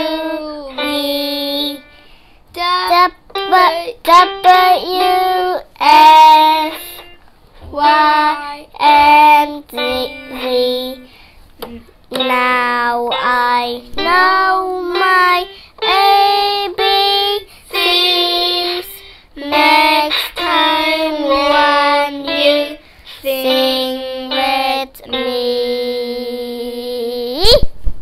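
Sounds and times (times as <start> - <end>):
electronic keyboard accompaniment: 0.0 - 25.9
girl singing into a microphone: 0.0 - 27.8.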